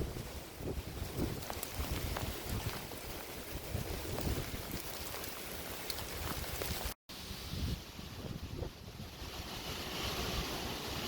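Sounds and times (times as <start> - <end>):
wind buffeting microphone: 0.0 - 5.2, 6.0 - 11.0.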